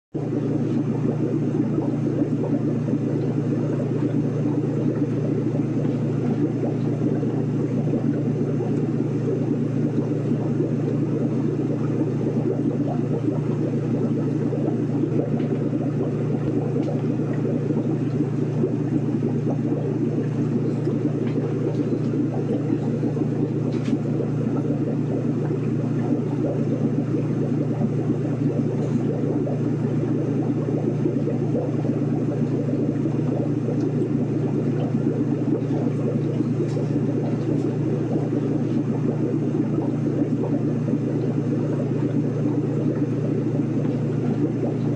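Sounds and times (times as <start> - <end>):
aquarium pump whirring hum: 0.2 - 44.9
low underwater rumble: 0.2 - 44.9.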